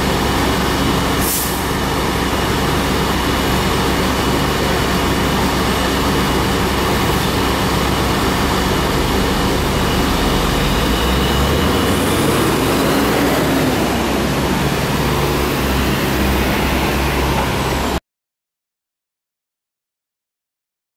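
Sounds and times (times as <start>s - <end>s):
bus engine running: 0.0s - 18.0s
road and cabin noise: 0.0s - 18.0s.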